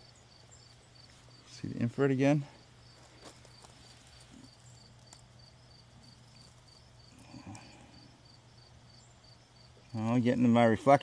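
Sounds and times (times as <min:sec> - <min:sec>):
faint cricket chirping: 0:00.0 - 0:11.0
faint low hum: 0:00.0 - 0:11.0.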